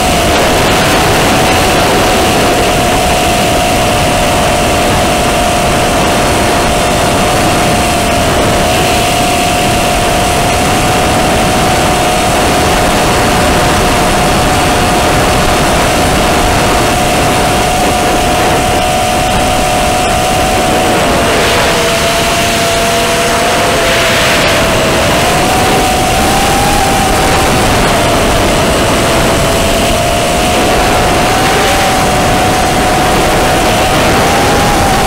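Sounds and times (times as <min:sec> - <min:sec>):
drone motors whining: 0:00.0 - 0:35.0
propeller rushing noise: 0:00.0 - 0:35.0.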